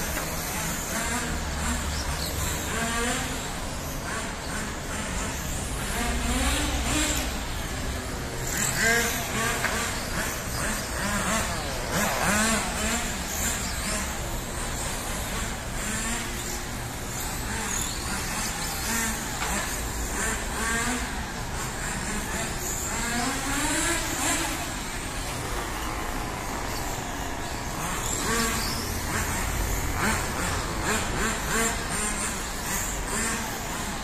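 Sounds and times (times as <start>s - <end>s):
radio-controlled car motors whining: 0.0s - 34.0s.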